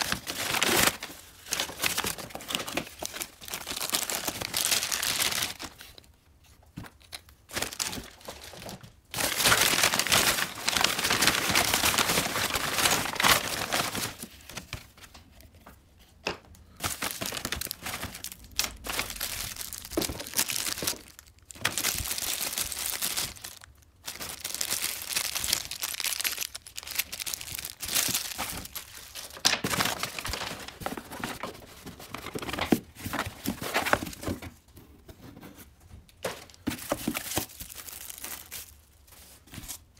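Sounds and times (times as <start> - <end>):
packing paper crinkling: 0.0 - 15.4, 16.7 - 34.6, 36.2 - 39.9.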